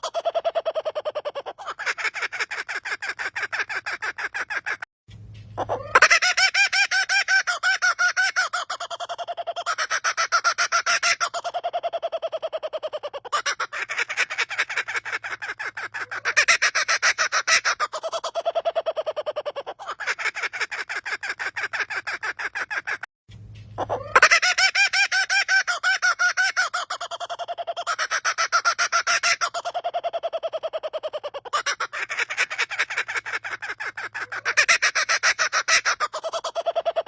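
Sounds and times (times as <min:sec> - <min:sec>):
bird laugh-like call: 0:00.0 - 0:04.9, 0:05.6 - 0:23.1, 0:23.7 - 0:37.0.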